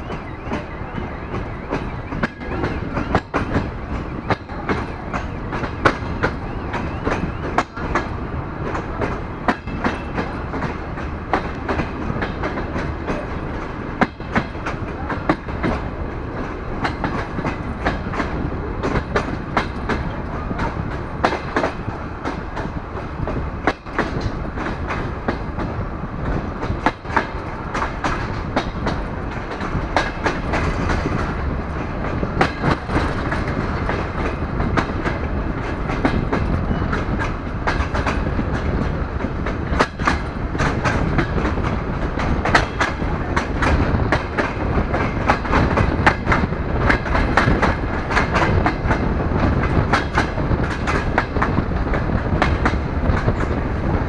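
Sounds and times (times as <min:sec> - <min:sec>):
train running noise: 0:00.0 - 0:54.0
wheels clicking over rail joints: 0:00.0 - 0:54.0.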